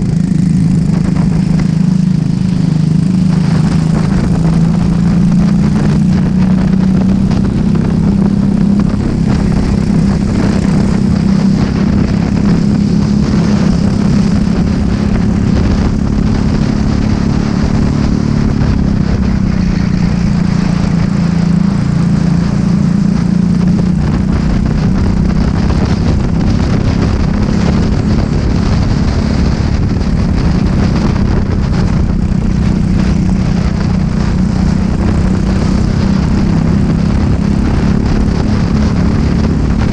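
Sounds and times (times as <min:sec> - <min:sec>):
kart engine at high revs: 0:00.0 - 0:39.9.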